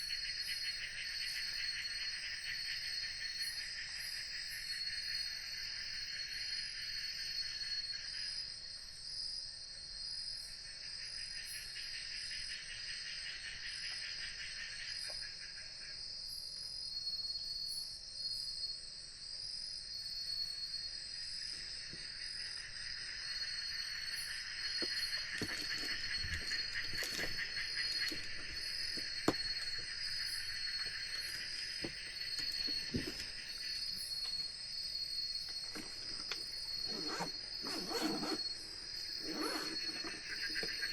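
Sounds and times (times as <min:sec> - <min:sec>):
crickets trilling: 0:00.0 - 0:40.9
low pulsing insect chorus: 0:00.0 - 0:40.9.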